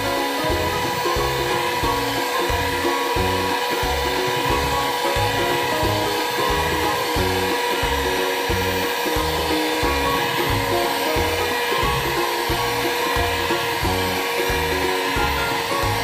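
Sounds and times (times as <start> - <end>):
background music with bass: 0.0 - 16.0
electric hand mixer whining: 0.0 - 16.0.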